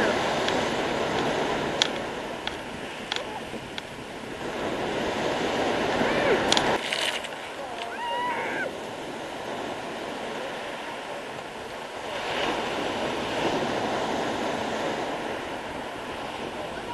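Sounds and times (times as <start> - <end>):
waves breaking on pebble beach: 0.0 - 16.9.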